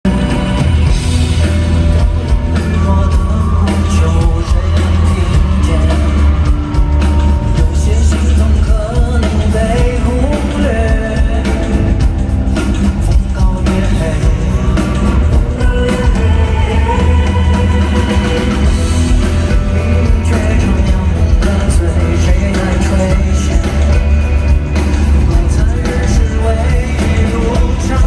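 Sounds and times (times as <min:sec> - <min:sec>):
live pop-rock band: 0:00.0 - 0:28.0
person singing: 0:00.1 - 0:28.0.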